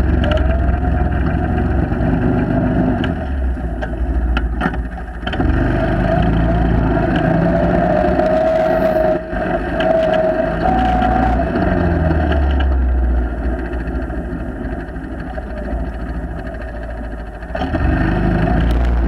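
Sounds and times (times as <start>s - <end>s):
atv engine running: 0.0s - 19.0s
steady whine: 0.0s - 19.0s.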